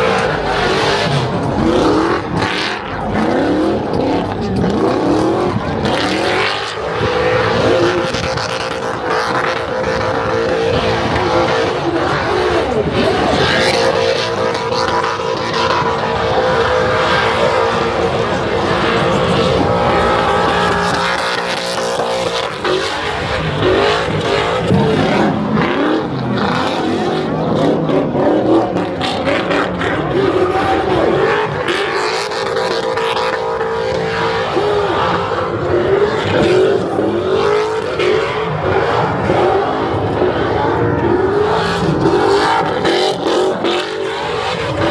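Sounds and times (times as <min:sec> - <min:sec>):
car engine revving hard: 0:00.0 - 0:44.9
spinning tyres rasping: 0:00.0 - 0:44.9.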